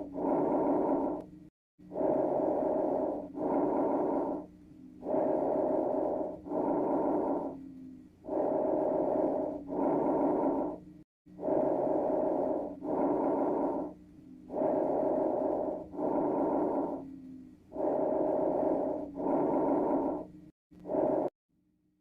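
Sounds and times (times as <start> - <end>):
breathing through a stethoscope: 0.0 - 21.3.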